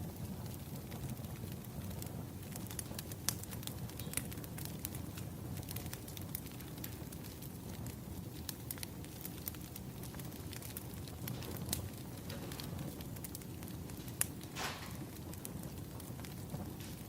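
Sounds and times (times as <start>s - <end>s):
fire crackles and pops: 0.0s - 17.0s
fire rumbling: 0.0s - 17.0s.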